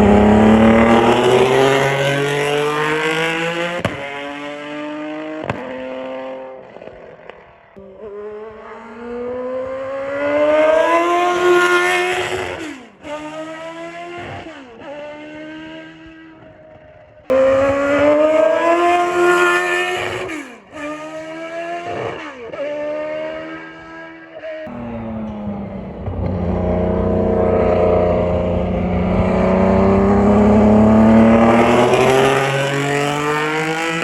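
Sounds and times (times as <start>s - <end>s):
racing car engine revving: 0.0s - 16.6s, 17.3s - 34.0s.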